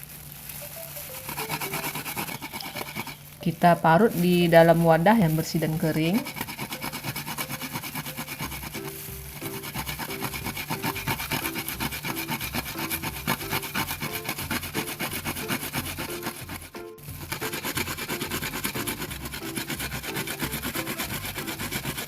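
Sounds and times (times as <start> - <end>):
ginger being grated: 0.0 - 22.0.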